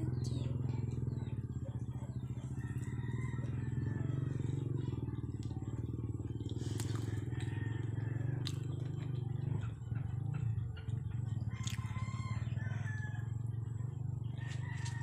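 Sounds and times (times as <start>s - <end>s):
faint chicken calls: 0.0s - 15.0s
small engine running: 0.0s - 15.0s.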